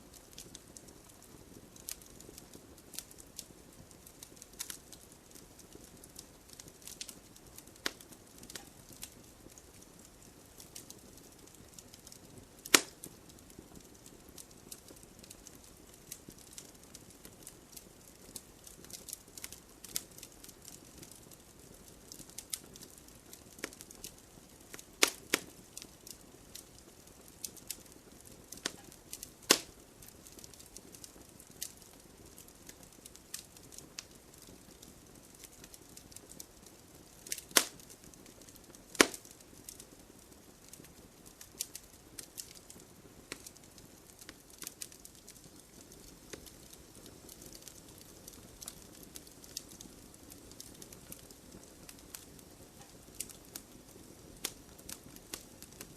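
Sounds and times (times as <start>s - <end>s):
campfire hissing and crackling: 0.0s - 55.9s
sharp pops from fire: 0.0s - 55.9s.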